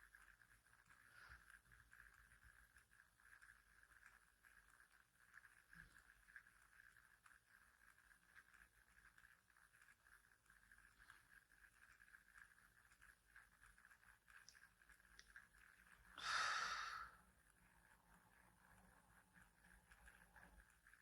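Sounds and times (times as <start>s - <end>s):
faint high-pitched hum: 0.0s - 21.0s.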